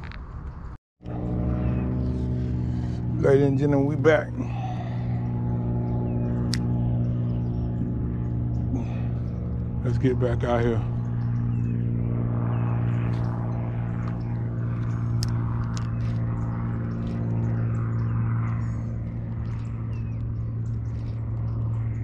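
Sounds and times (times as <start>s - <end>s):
low machine hum: 0.2s - 22.0s.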